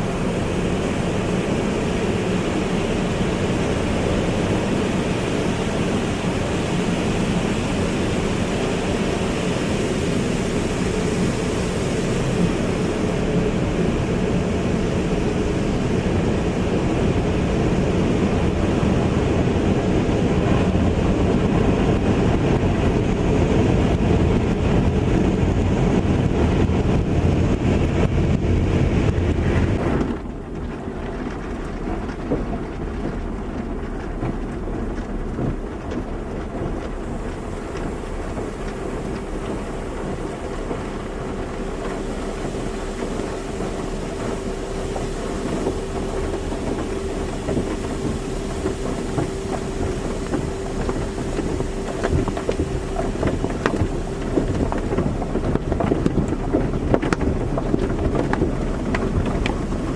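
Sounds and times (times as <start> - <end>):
steady hum: 0.0 - 59.9
water spattering: 0.0 - 59.9
water spray and machinery: 0.0 - 59.9.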